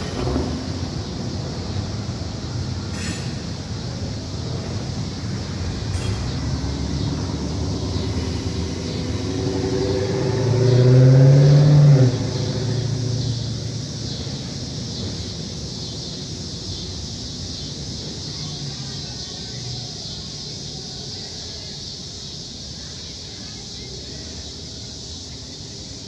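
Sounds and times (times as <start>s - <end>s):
distant vehicle rumble: 0.0s - 26.0s
steady high hiss: 0.0s - 26.0s.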